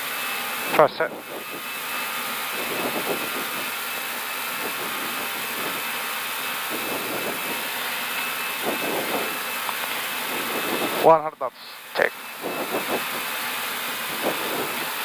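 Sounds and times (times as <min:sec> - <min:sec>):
wheels rumbling on runway: 0:00.0 - 0:11.2, 0:12.4 - 0:15.0
jet engine and airflow noise: 0:00.0 - 0:15.0.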